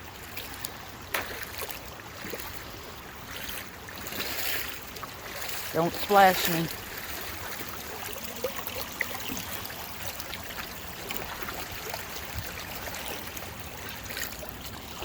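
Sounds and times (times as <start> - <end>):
floodwater running and trickling: 0.0 - 15.0
small water splashes: 0.0 - 15.0.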